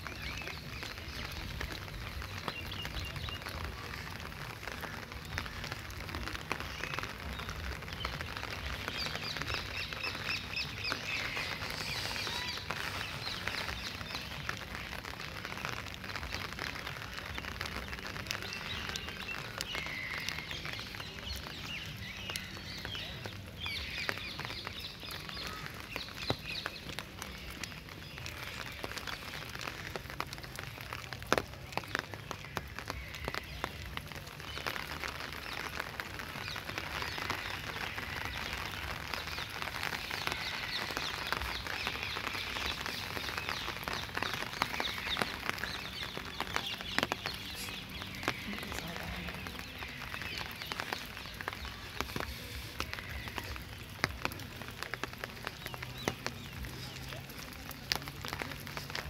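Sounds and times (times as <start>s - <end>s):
rain dripping: 0.0s - 59.0s.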